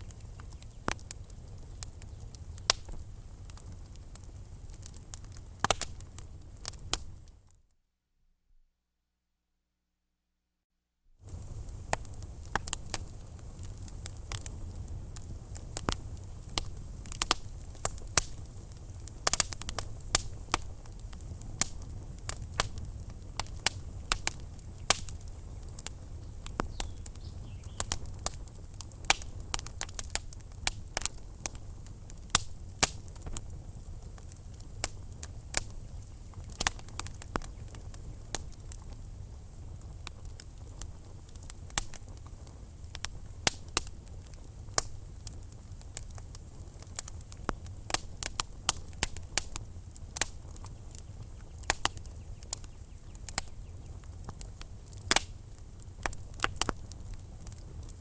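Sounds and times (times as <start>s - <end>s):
wood fire crackling and popping: 0.0s - 7.5s, 11.2s - 58.0s.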